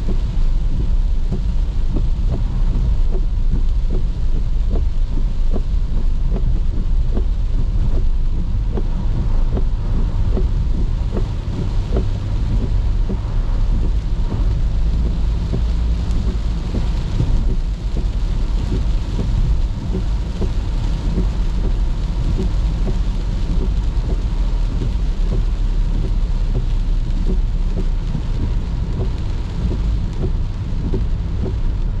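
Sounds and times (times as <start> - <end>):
car and road rumble: 0.0 - 32.0
raindrops ticking on a car: 0.0 - 32.0.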